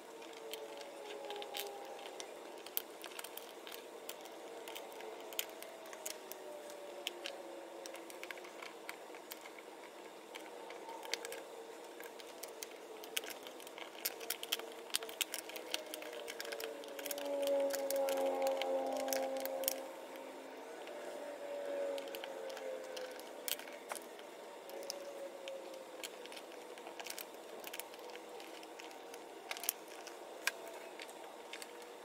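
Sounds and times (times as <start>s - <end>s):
objects clicking and tapping: 0.2s - 19.8s, 22.0s - 32.0s.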